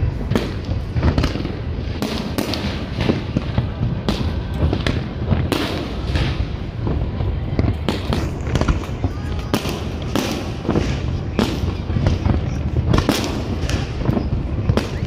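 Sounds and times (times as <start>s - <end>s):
continuous low rumble: 0.0s - 15.0s
fireworks bursting: 0.0s - 15.0s.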